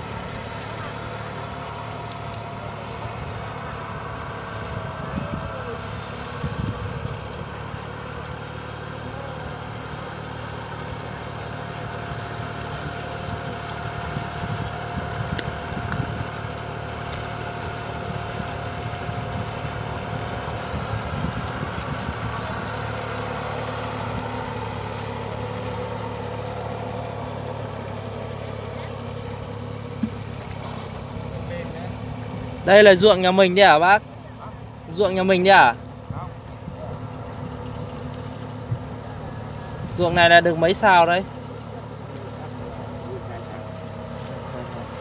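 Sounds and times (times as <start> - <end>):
small tractor running: 0.0 - 45.0.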